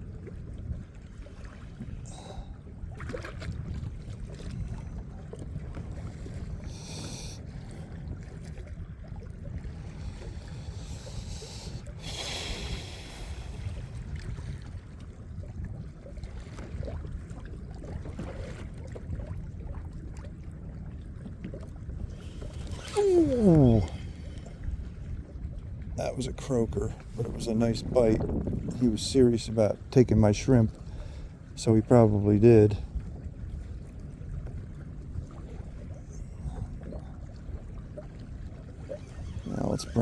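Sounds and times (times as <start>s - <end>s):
water moving around kayak: 0.0s - 40.0s
wind rumbling on microphone: 0.0s - 40.0s.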